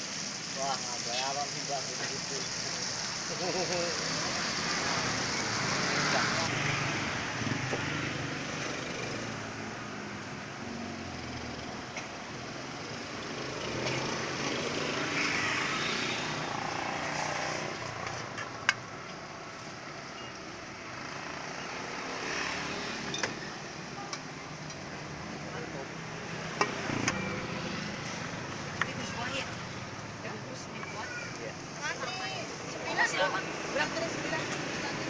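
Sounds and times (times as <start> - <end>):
traffic motor noise: 0.0 - 35.0.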